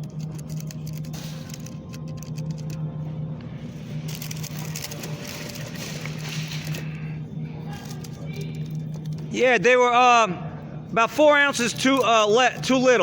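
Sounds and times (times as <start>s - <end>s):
refrigerated case humming: 0.0s - 13.0s.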